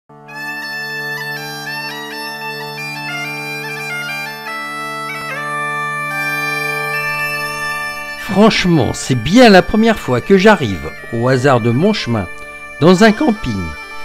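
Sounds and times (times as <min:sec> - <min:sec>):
bagpipes playing: 0:00.1 - 0:14.0.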